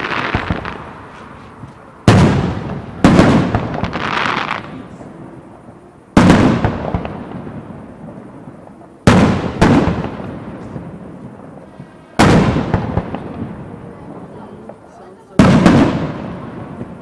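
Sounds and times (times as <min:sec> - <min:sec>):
fireworks bangs: 0:00.0 - 0:17.0
rolling echo: 0:00.0 - 0:17.0.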